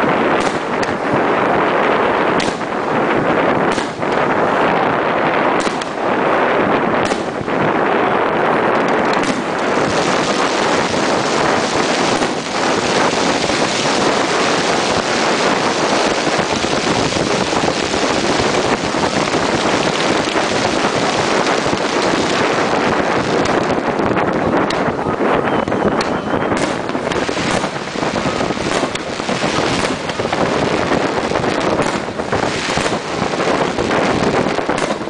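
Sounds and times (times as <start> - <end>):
faint fireworks pops: 0.0 - 8.0, 8.6 - 35.0
wind on microphone: 0.0 - 35.0.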